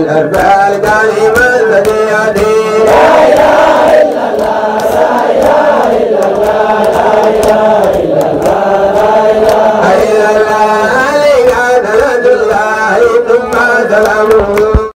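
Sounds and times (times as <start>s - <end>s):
higher leading voice chanting: 0.0s - 14.5s
men chanting: 0.0s - 14.7s.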